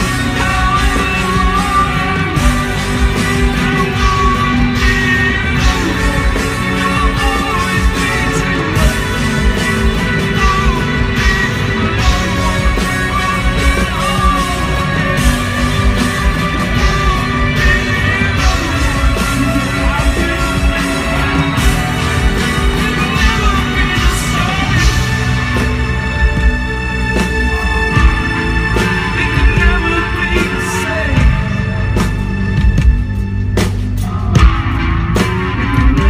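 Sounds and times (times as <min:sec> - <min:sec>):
man singing: 0:00.0 - 0:26.4, 0:27.1 - 0:32.2, 0:34.0 - 0:36.0
bass guitar: 0:00.0 - 0:36.0
electric guitar: 0:00.0 - 0:36.0
steady drumbeat: 0:00.0 - 0:36.0.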